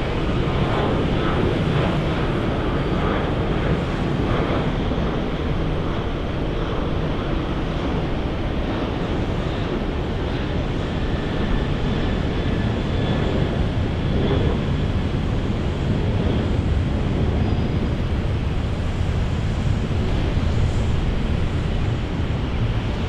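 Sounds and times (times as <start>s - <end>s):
jet engines roaring: 0.0s - 23.0s
wind rumble on microphone: 0.0s - 23.0s.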